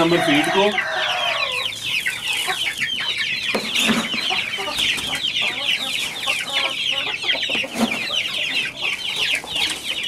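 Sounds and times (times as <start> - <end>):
chicks peeping: 0.0 - 10.0.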